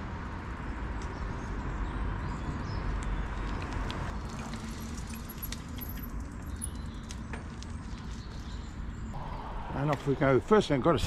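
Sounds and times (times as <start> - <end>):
outdoor background noise: 0.0 - 11.0
bicycle clinks and rattles: 0.2 - 9.1.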